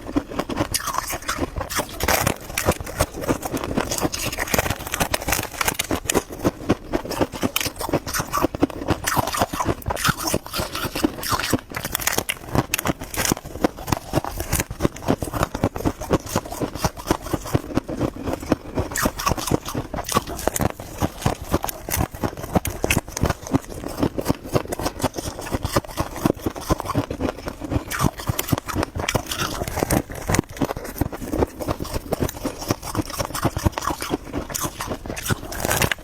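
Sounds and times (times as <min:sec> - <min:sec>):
frost crunching: 0:00.0 - 0:36.0.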